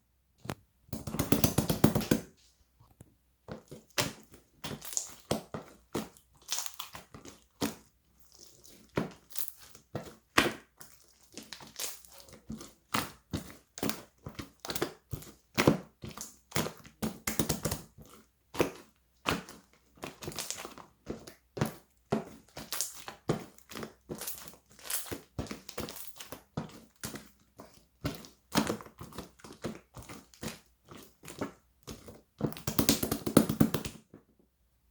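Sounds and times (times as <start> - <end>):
slime squelching: 1.0 - 34.0.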